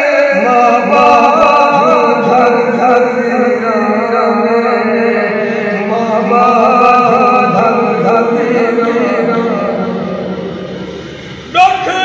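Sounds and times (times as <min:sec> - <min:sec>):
elderly man singing unaccompanied: 0:00.0 - 0:10.0.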